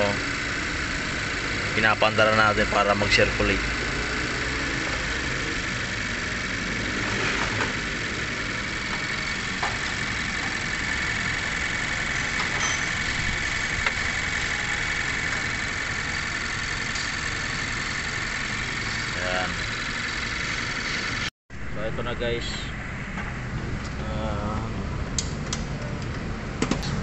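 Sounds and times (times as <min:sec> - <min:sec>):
car engine idling: 0:00.0 - 0:26.1.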